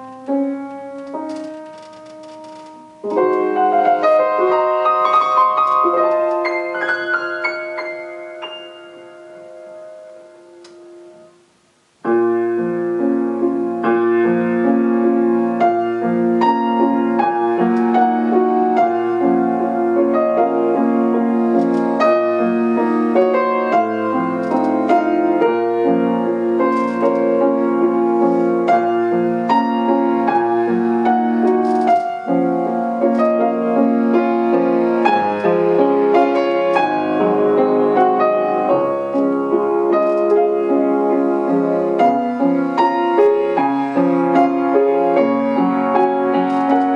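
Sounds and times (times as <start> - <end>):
solo piano piece: 0.0 - 46.9.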